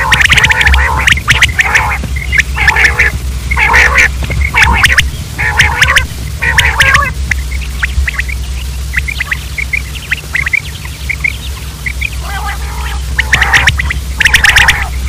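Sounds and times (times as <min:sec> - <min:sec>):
quail calling: 0:00.0 - 0:15.0
steady low hum: 0:00.0 - 0:15.0.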